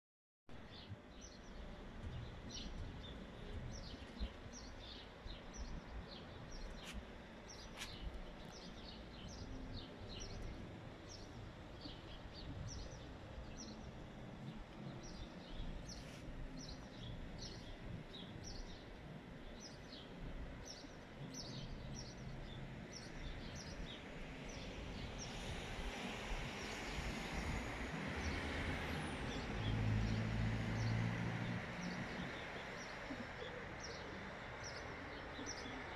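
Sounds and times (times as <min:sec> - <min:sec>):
low city background rumble: 0:00.5 - 0:35.9
small birds chirping: 0:00.7 - 0:25.7, 0:31.8 - 0:35.9.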